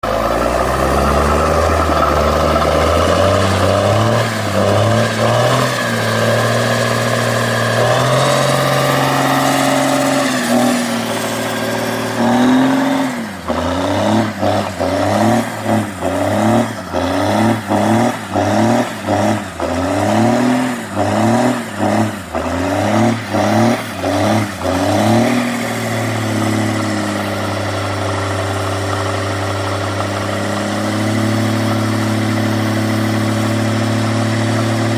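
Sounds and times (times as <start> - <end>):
diesel truck engine revving: 0.0 - 34.9.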